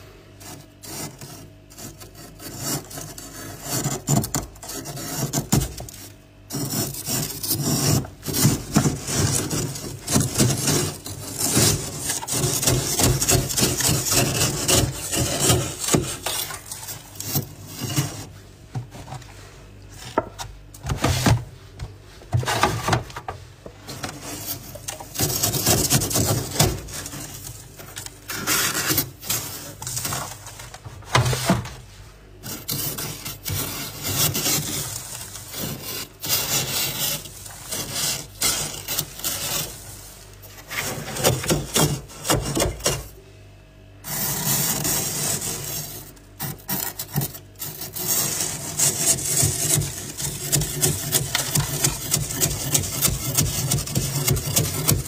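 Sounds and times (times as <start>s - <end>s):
scraping frost off freezer shelves: 0.0s - 43.2s, 44.0s - 55.0s.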